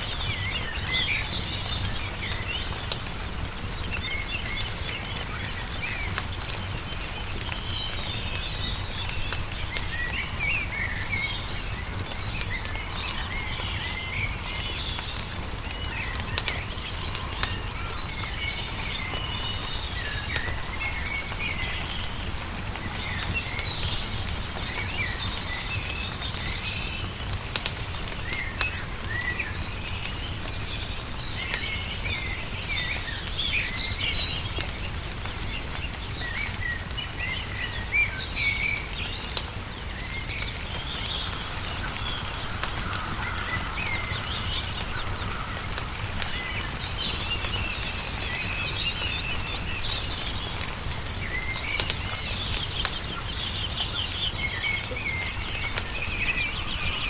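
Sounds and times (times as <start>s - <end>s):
songbirds chirping: 0.0s - 57.0s
wood fire crackling and popping: 0.0s - 57.0s.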